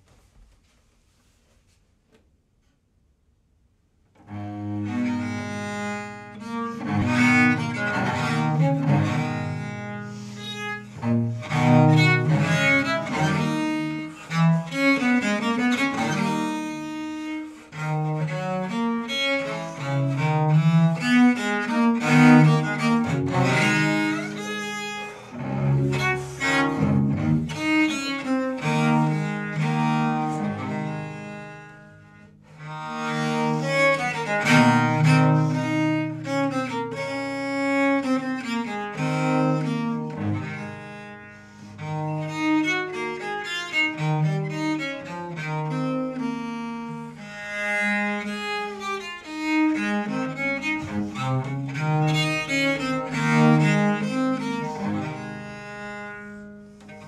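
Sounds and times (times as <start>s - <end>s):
bowed viola da gamba: 4.2s - 57.0s.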